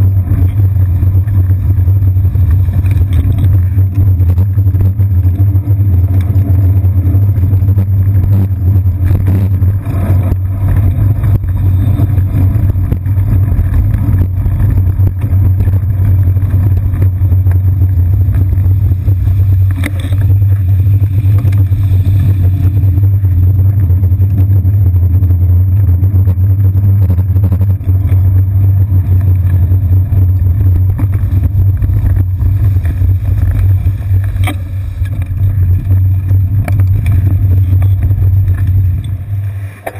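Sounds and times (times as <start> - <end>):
road vibration and wind rumble: 0.0 - 39.9
street traffic: 0.0 - 39.9.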